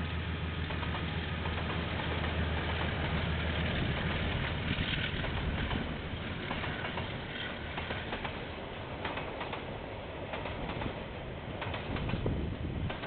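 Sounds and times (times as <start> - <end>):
locomotive engine hum: 0.0 - 13.0
train wagons clicking and rattling: 0.6 - 13.0.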